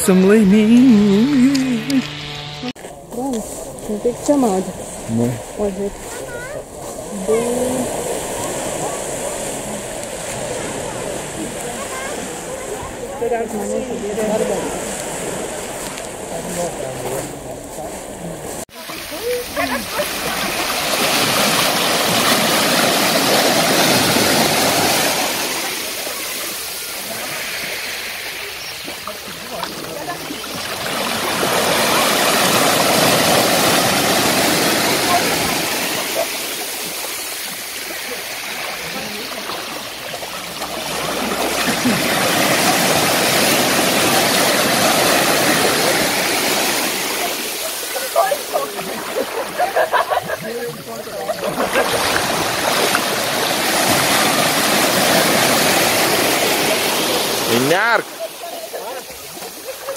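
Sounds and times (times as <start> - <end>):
waves washing over pebbles: 3.2 - 59.9.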